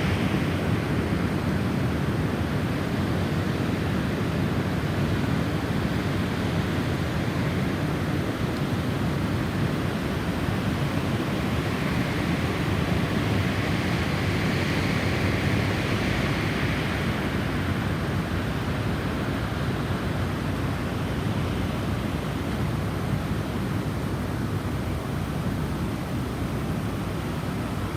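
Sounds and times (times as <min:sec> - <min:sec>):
storm wind blowing: 0:00.0 - 0:27.9.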